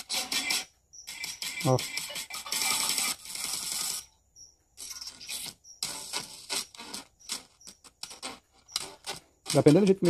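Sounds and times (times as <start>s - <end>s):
radio loudspeaker crackling: 0.0s - 4.0s, 5.1s - 10.0s.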